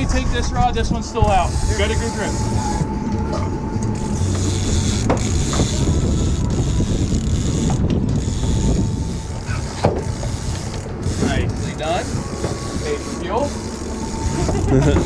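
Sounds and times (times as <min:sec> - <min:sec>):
boat engine rumble: 0:00.0 - 0:15.0
wind: 0:00.0 - 0:15.0
fishing reel whirring and clicking: 0:01.2 - 0:15.0.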